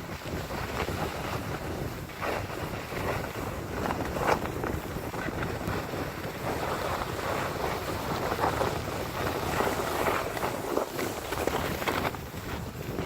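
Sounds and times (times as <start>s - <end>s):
skis scraping over snow: 0.0s - 13.0s
wind on microphone: 0.0s - 13.0s.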